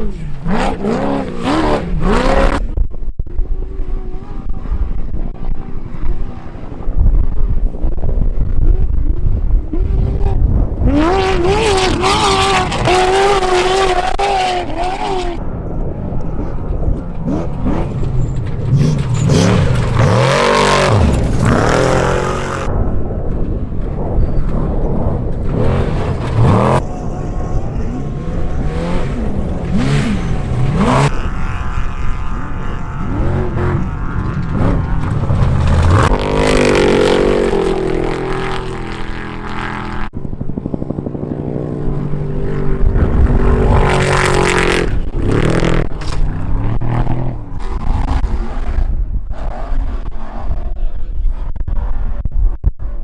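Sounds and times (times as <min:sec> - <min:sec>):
race vehicle engines passing: 0:08.4 - 0:51.0.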